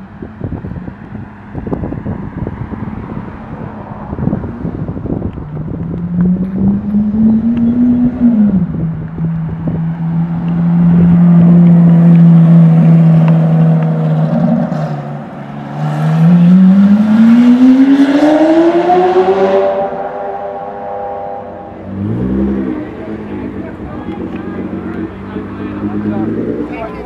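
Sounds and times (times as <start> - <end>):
sports car engine revving: 4.1 - 27.0.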